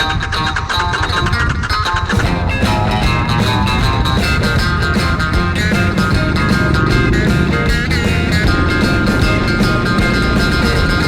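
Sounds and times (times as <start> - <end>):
rock music with guitar: 0.0 - 11.0.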